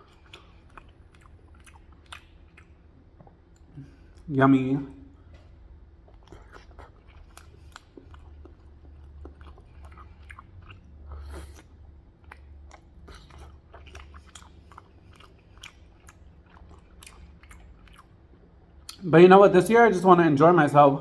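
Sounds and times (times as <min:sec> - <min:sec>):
person chewing food: 0:00.0 - 0:04.3, 0:05.1 - 0:19.0
low steady hum: 0:00.0 - 0:21.0.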